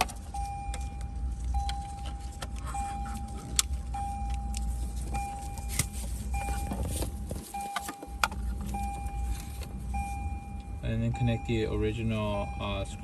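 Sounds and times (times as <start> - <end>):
car warning chime: 0.0 - 13.0
low steady hum: 0.0 - 13.0.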